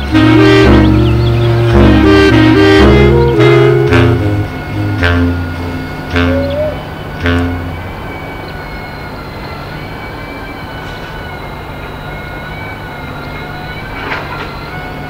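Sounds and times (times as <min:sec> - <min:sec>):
excavator engine drone: 0:00.0 - 0:15.0
high whine: 0:00.0 - 0:15.0.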